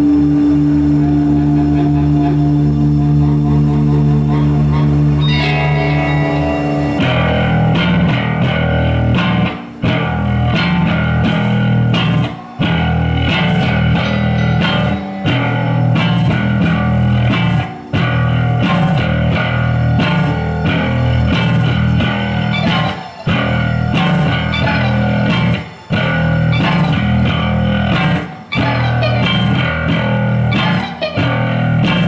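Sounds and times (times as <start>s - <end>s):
electric guitar: 0.0s - 32.0s
heavy bass guitar line: 0.0s - 32.0s
drums: 5.2s - 32.0s.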